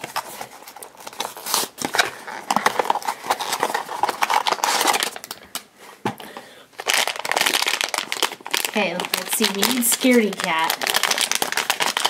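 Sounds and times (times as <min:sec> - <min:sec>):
foil bag crinkling: 0:00.0 - 0:05.6, 0:06.8 - 0:12.0.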